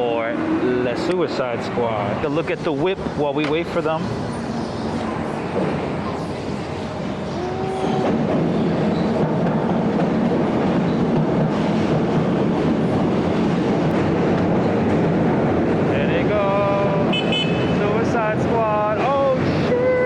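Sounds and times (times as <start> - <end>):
rumbling of passing vehicles: 0.0 - 20.0.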